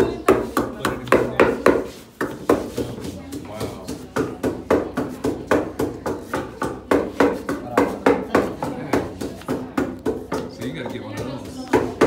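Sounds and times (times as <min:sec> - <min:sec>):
pestle pounding in mortar: 0:00.0 - 0:12.0.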